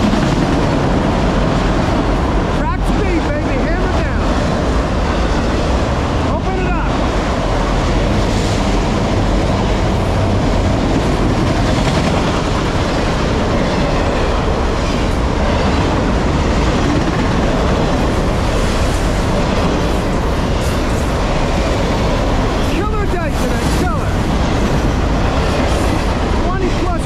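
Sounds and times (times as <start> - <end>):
freight train rolling past: 0.0 - 27.0.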